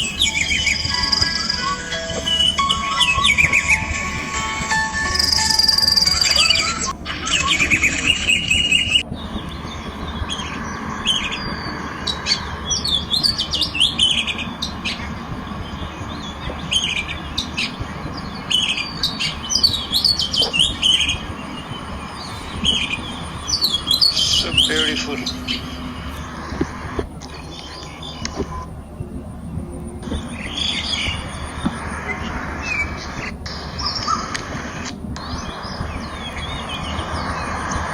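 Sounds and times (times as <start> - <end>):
birds chirping and calling: 0.0 - 37.9
low steady background noise: 0.0 - 37.9.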